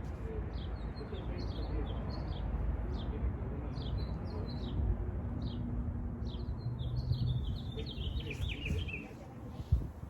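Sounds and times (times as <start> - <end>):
small birds chirping: 0.2 - 9.9.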